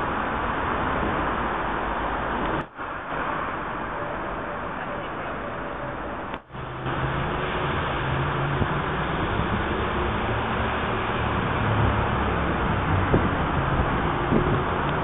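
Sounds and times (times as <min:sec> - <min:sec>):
busy road traffic: 0:00.0 - 0:15.0
low engine hum: 0:00.0 - 0:15.0.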